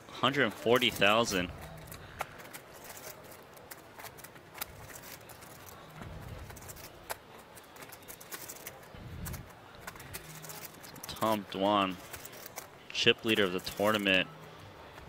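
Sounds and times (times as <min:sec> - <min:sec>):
poker chips clicking: 0:00.6 - 0:14.2.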